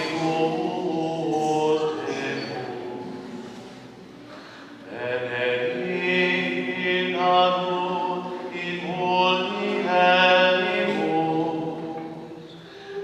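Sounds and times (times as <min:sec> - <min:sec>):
choir singing church music: 0:00.0 - 0:13.0.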